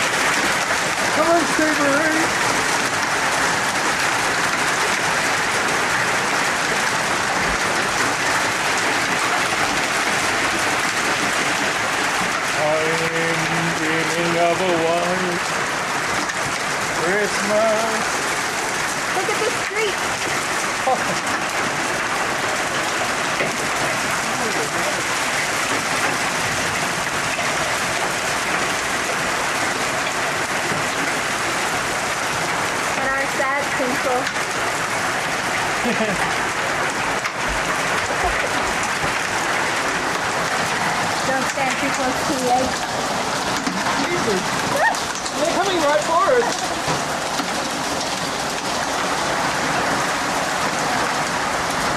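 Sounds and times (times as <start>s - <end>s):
hailstones clattering on ground: 0.0s - 51.9s.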